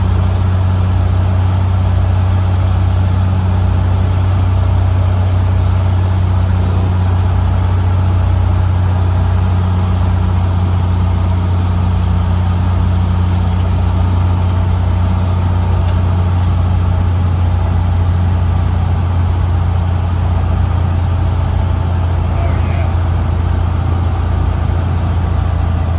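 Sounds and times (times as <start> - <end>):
light aircraft engine droning: 0.0 - 25.9.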